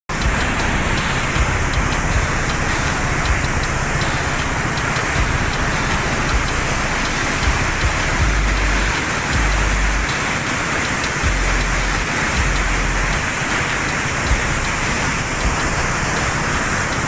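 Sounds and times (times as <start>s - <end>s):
water rushing through barrage: 0.1s - 17.0s.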